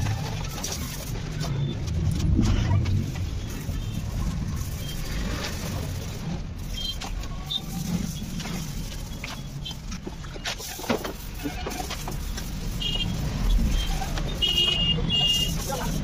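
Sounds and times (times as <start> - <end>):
road traffic rumble: 0.0 - 16.0
sandpaper scratching: 0.0 - 16.0.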